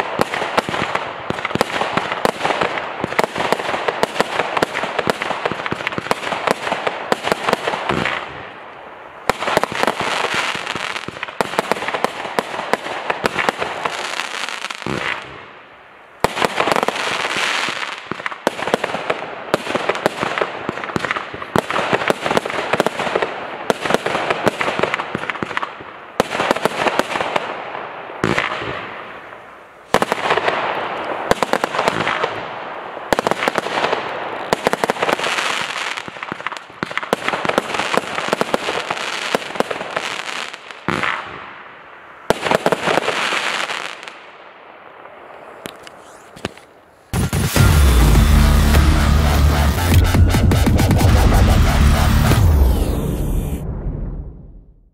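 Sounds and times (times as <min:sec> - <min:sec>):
fireworks bangs and pops: 0:00.0 - 0:08.5, 0:09.2 - 0:15.5, 0:16.2 - 0:29.0, 0:29.9 - 0:41.6, 0:42.3 - 0:44.2, 0:45.6 - 0:53.6.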